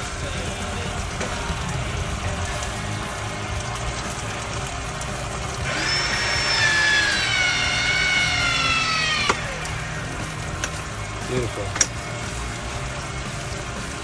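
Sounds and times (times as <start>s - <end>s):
crimping tool motor whine: 0.0s - 14.0s.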